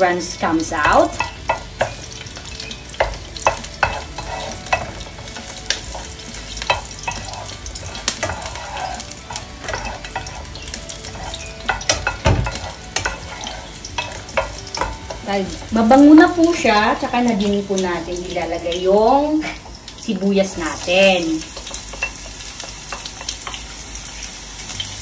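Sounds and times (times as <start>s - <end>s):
garlic sizzling in oil: 0.0s - 25.0s
wooden spoon scraping a pan: 0.3s - 17.7s, 19.4s - 24.8s.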